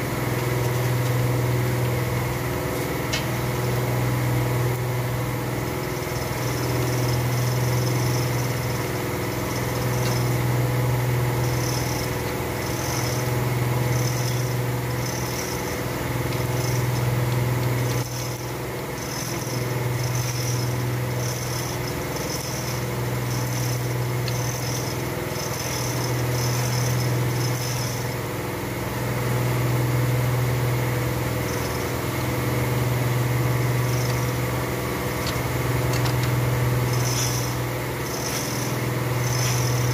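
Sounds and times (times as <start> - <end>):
machine humming: 0.0 - 39.9.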